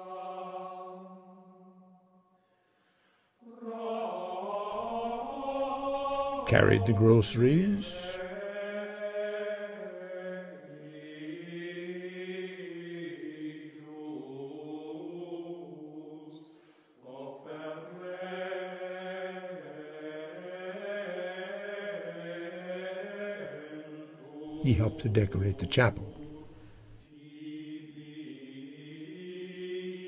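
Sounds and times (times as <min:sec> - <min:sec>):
voices chanting in long notes: 0:00.0 - 0:02.1, 0:03.4 - 0:30.0.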